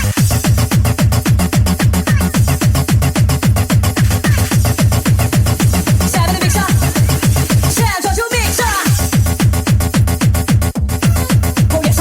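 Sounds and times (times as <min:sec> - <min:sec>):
fast electronic dance music: 0:00.0 - 0:12.0.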